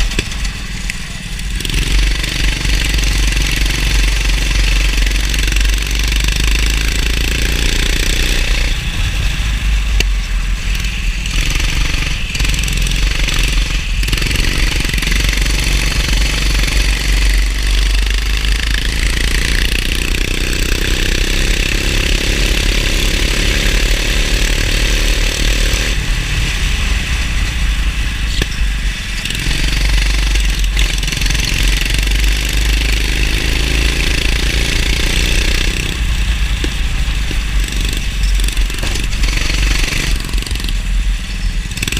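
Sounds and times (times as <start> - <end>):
go-kart engine running hard: 0.0 - 41.9.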